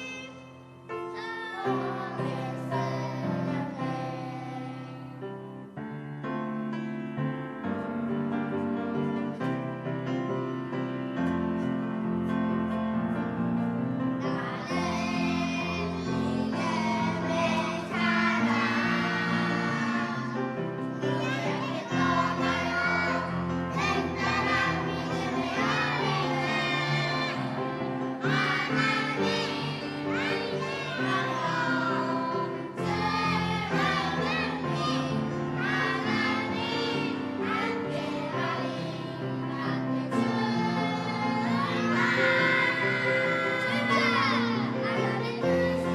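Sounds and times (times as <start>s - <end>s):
children's choir singing a hymn: 0.0s - 45.9s
piano accompaniment: 0.0s - 45.9s.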